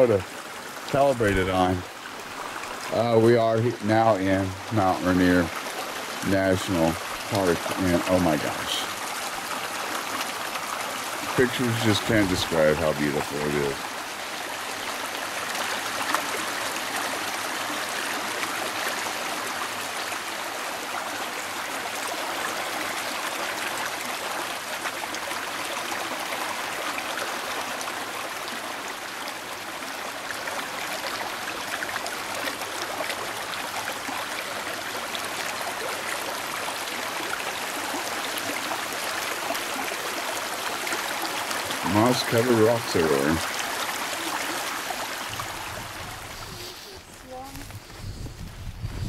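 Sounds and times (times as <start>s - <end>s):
stream rushing water: 0.0s - 47.6s.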